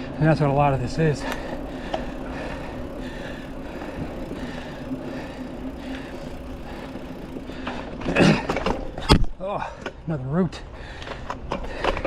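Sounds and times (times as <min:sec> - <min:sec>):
bike clicks and rattles: 0:00.0 - 0:12.0
bike tyres on dirt trail: 0:00.0 - 0:12.0.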